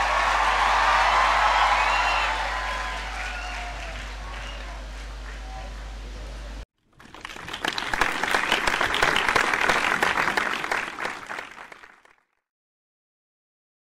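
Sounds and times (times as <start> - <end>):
audience applauding: 0.0 - 5.9, 6.9 - 12.2.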